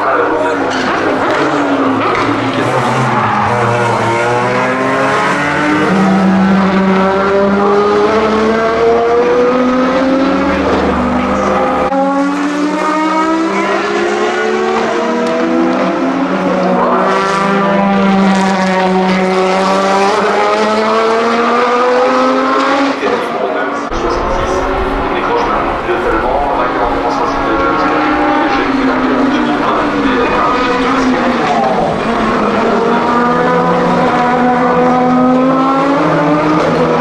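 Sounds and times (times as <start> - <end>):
racing engine accelerating past: 0.2 - 37.0.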